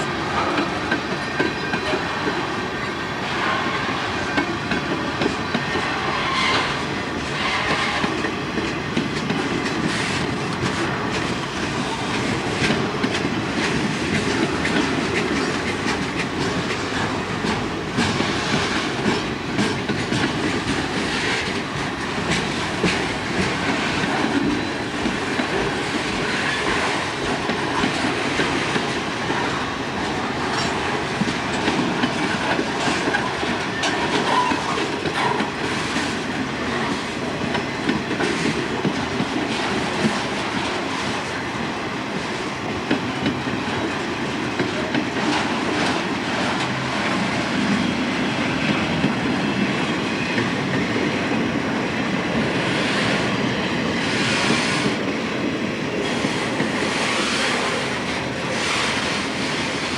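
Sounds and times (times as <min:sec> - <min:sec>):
wheels clacking over rail joints: 0:00.0 - 0:41.4, 0:42.1 - 0:59.8
railroad cars rumbling past: 0:00.0 - 0:59.9.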